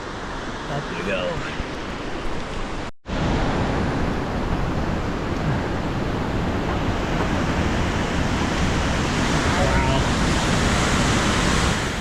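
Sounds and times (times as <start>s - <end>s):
rushing river rapids: 0.0s - 12.0s.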